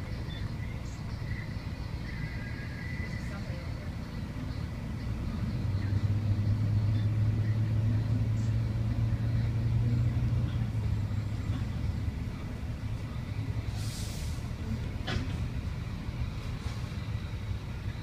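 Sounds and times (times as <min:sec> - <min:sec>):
bus engine drone: 0:00.0 - 0:18.0.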